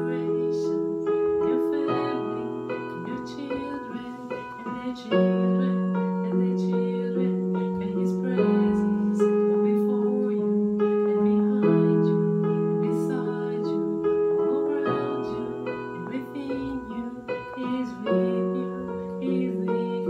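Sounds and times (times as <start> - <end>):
electronic keyboard chords: 0.0 - 20.0.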